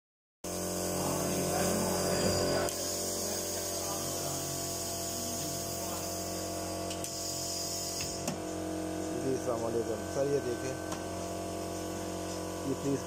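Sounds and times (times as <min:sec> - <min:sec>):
machine hum: 0:00.5 - 0:13.0.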